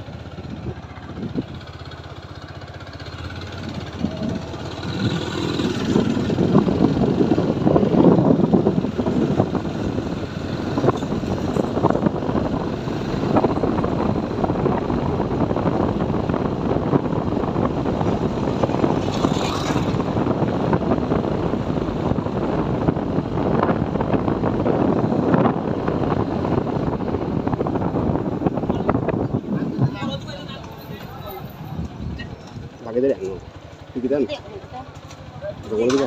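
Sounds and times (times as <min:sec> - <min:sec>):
motorcycle engine running: 0:00.0 - 0:36.0
road noise: 0:00.0 - 0:36.0
wind rush: 0:03.6 - 0:32.8.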